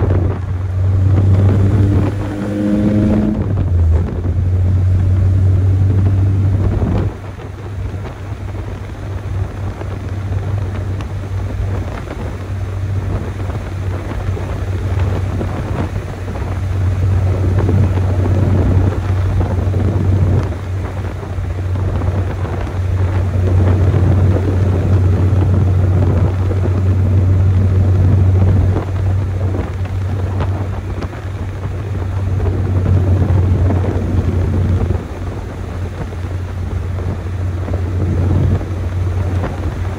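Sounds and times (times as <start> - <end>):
pickup engine droning: 0.0 - 39.9
road and wind noise: 0.0 - 39.9.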